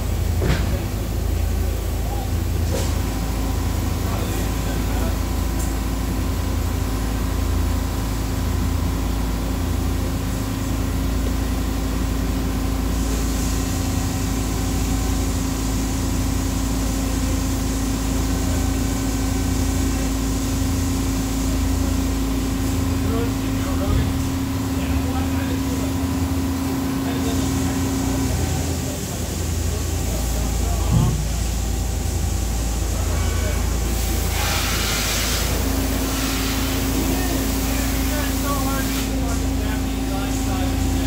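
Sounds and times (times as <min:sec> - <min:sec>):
machines industrial hum: 0:00.0 - 0:41.0.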